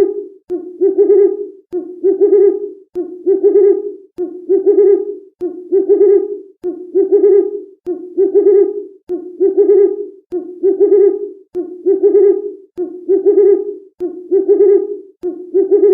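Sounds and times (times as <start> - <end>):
owl hooting: 0.0 - 15.9.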